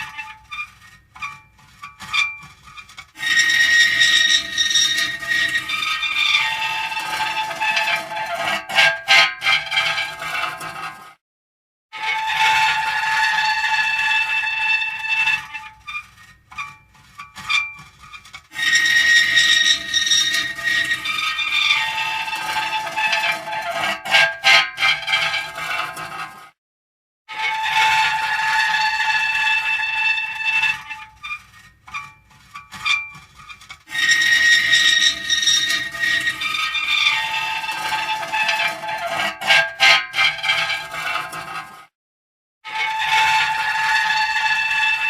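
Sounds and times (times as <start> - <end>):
metal creaking and squealing: 0.0 - 11.1, 12.0 - 26.5, 27.3 - 41.9, 42.7 - 45.0.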